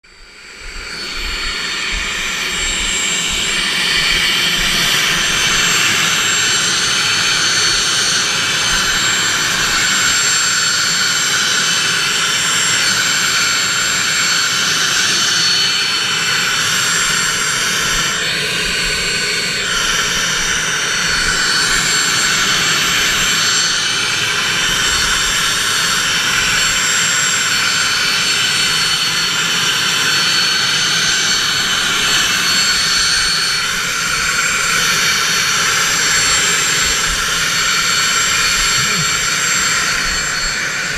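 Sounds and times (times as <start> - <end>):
helicopter turbine whine: 0.0 - 40.9
rotor blades throbbing: 0.0 - 40.9.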